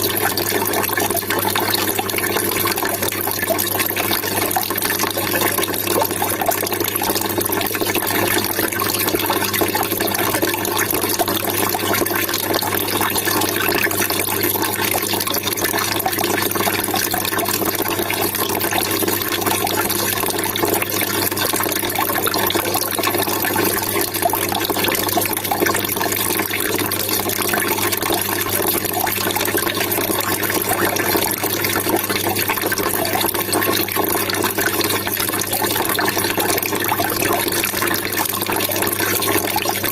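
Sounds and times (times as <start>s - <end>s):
trickling splashing water: 0.0s - 39.9s.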